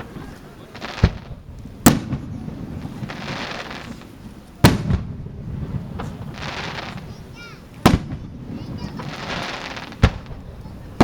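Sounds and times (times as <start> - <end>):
crackling hiss: 0.0 - 11.0
firework booms with rumble: 0.0 - 11.0.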